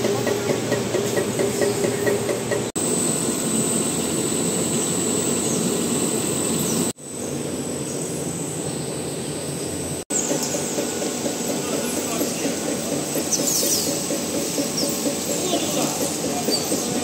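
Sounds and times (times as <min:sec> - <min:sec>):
factory machinery running: 0:00.0 - 0:17.0.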